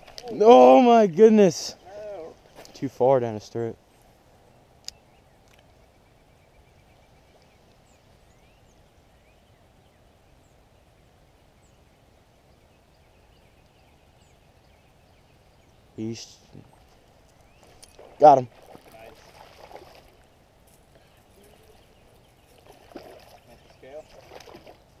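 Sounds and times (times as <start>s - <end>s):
low background hiss: 0.0s - 25.0s
faint bird chirps: 4.4s - 24.8s.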